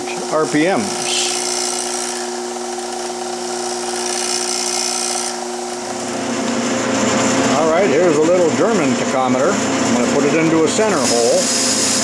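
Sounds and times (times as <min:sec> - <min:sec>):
bench grinder motor humming: 0:00.0 - 0:09.0, 0:09.6 - 0:12.0.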